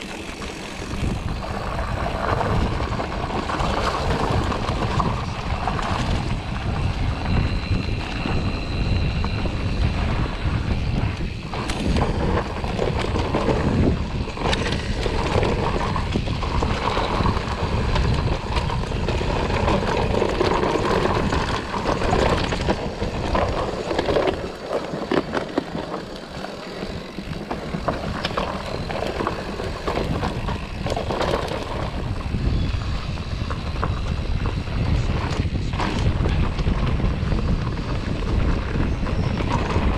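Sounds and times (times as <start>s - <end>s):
bike rattles and knocks: 0.0s - 39.9s
bike tyre noise: 0.0s - 39.9s
wind buffeting microphone: 0.0s - 39.9s.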